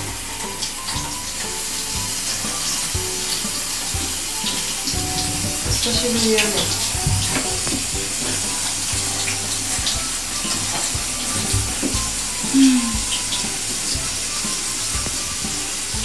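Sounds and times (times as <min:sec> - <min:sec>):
shower spraying water: 0:00.0 - 0:16.0.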